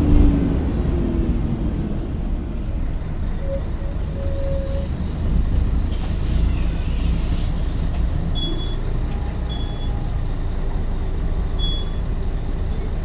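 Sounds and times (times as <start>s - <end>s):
diesel bus engine rumbling: 0.0s - 13.0s.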